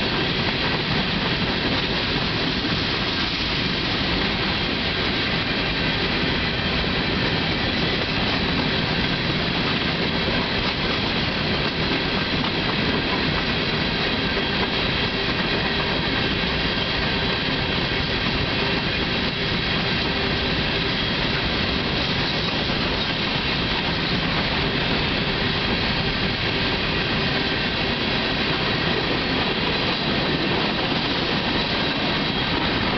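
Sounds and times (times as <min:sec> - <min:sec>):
freight train wheels rumbling on rail: 0:00.0 - 0:32.9.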